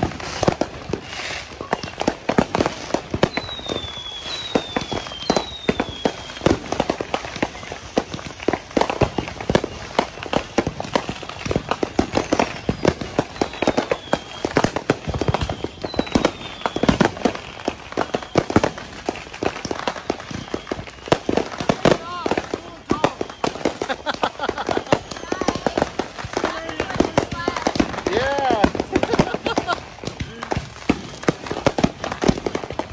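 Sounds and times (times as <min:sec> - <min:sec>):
falling firework whistles: 0:00.0 - 0:32.9
fireworks popping and banging: 0:00.0 - 0:32.9.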